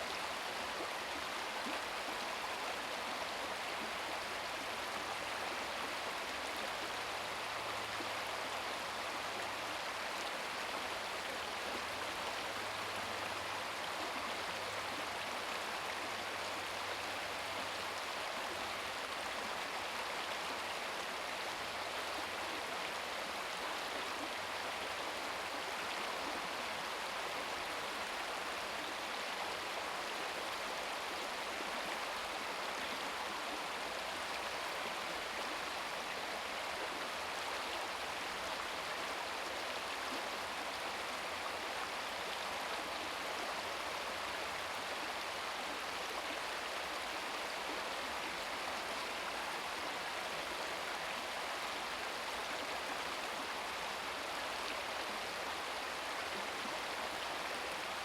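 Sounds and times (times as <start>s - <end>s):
brook babbling over stones: 0.0s - 58.0s.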